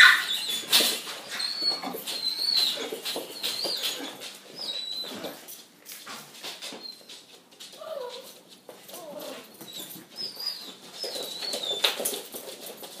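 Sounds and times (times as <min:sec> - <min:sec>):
puppies whining and yelping: 0:00.0 - 0:05.5, 0:06.7 - 0:07.2, 0:07.8 - 0:12.2.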